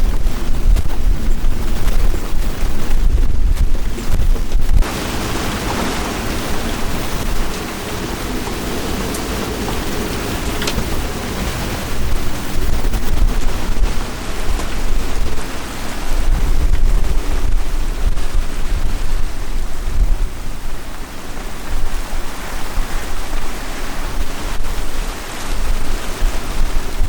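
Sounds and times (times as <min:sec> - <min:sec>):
heavy wind and rain: 0:00.0 - 0:27.0
low rumble of gusts: 0:00.0 - 0:27.0.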